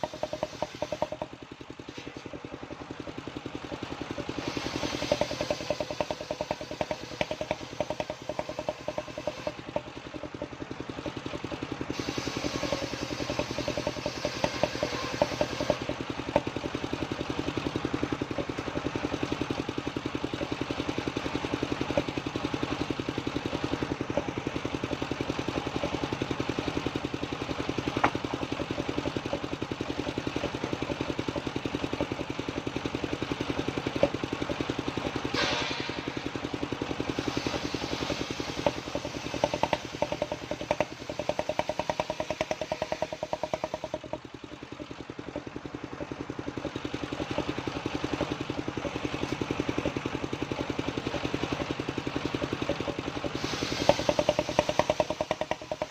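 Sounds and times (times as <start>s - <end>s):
machine clatter: 0.0s - 55.9s
sawmill engine running: 0.0s - 55.9s.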